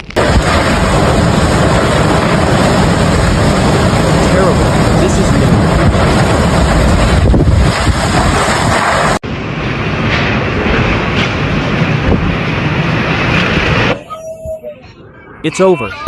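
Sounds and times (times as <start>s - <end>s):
wind blasting across microphone: 0.0s - 15.7s.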